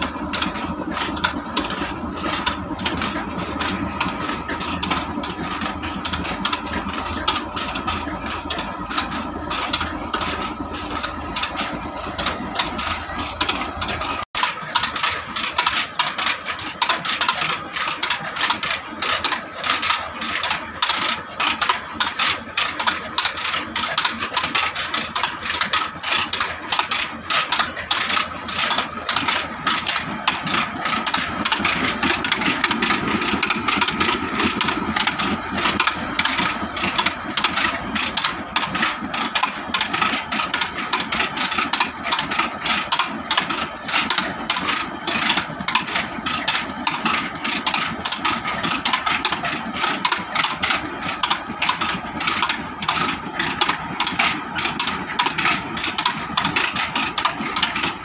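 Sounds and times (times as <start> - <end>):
stone mill clattering: 0.0 - 58.0.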